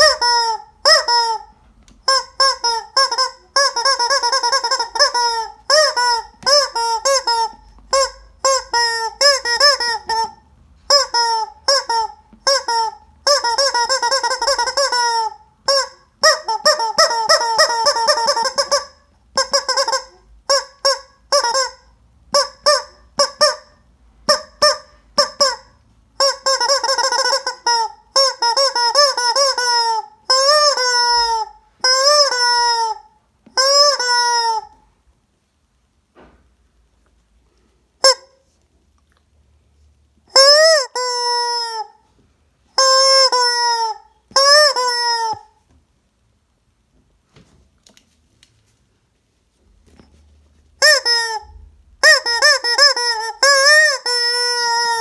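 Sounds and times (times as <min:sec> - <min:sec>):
rubber chicken toy squawks: 0:00.0 - 0:34.9, 0:38.0 - 0:38.6, 0:40.3 - 0:45.7, 0:50.8 - 0:55.0.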